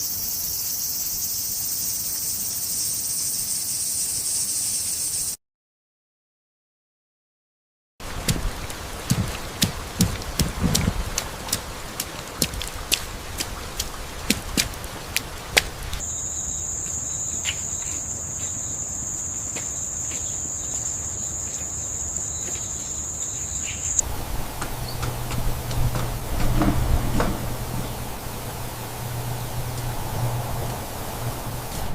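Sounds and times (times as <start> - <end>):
insects chirring: 0.0 - 5.4, 8.7 - 31.9.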